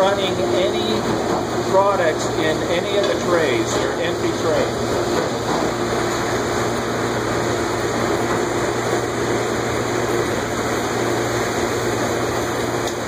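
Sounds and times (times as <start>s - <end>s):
dish machine motor and pump hum: 0.0s - 13.0s
rushing water: 0.0s - 13.0s.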